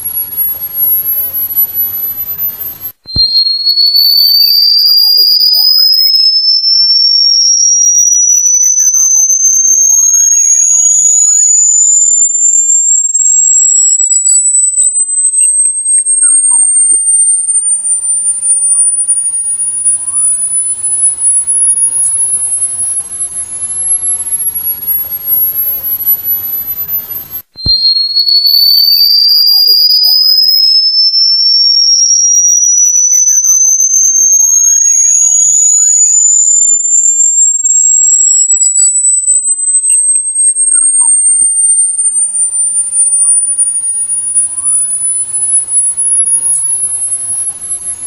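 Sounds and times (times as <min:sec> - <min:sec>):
rising electronic tone: 0:00.0 - 0:23.0, 0:26.4 - 0:47.1
very high electronic tone: 0:00.0 - 0:48.0.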